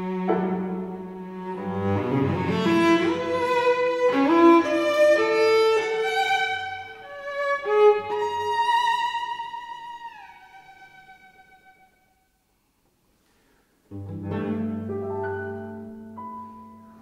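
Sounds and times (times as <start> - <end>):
cello bowed notes: 0.0 - 12.2, 13.9 - 17.0.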